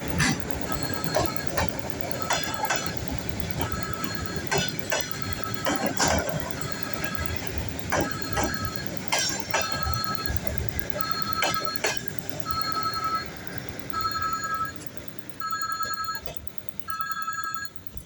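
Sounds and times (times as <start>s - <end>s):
train rumble: 0.0s - 18.0s
train wheels clacking over joints: 0.0s - 18.0s.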